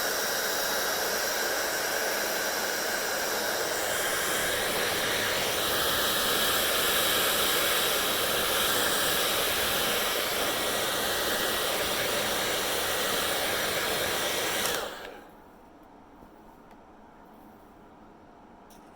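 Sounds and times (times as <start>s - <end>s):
hair dryer blowing: 0.0s - 15.3s.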